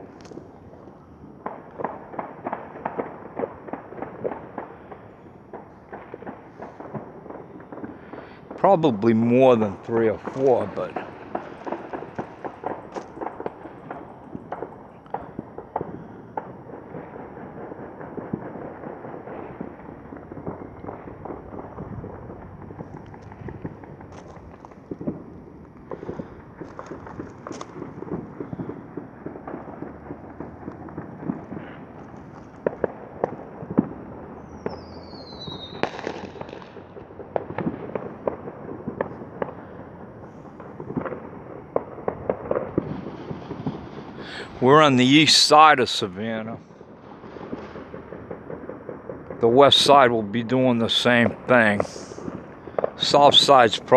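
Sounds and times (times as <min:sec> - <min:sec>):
distant fireworks popping: 0:00.0 - 0:53.9.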